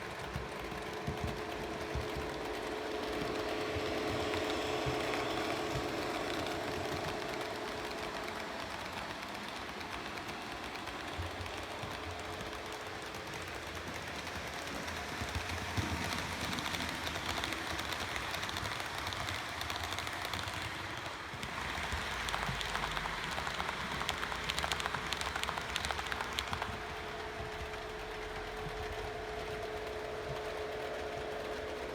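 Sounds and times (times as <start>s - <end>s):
model train motor hum: 0.0s - 31.9s
wheels clicking over rail joints: 0.0s - 31.9s.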